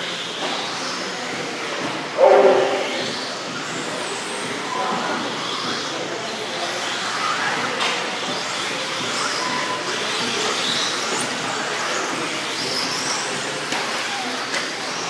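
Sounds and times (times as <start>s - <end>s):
rc car motors whining: 0.0s - 15.0s.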